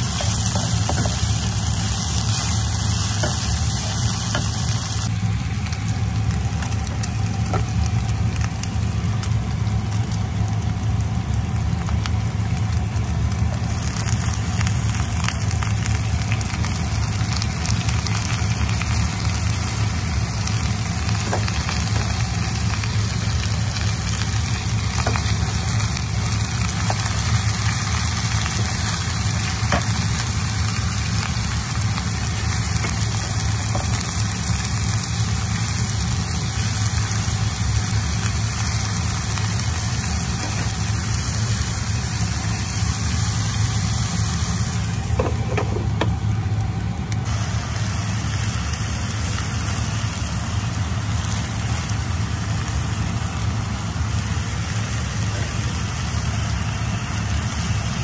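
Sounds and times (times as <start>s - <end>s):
steady low hum: 0.0s - 58.0s
vegetables sizzling in a frying pan: 0.0s - 58.0s.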